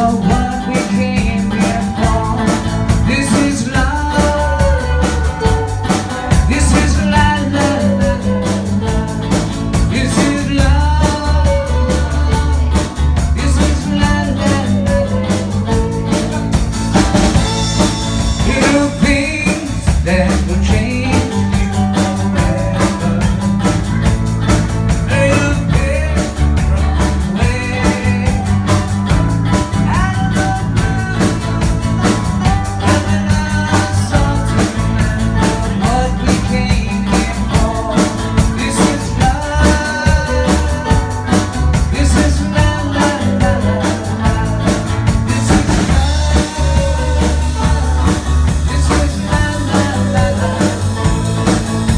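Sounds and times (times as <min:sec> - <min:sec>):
bass line: 0:00.0 - 0:51.9
drum kit beat: 0:00.0 - 0:51.9
live rock band: 0:00.0 - 0:51.9.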